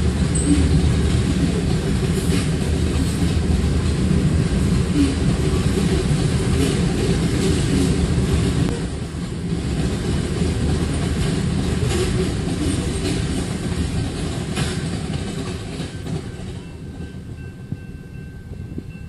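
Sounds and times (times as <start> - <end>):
wheels clacking over rail joints: 0.0 - 17.1
freight train rumbling past: 0.0 - 19.0.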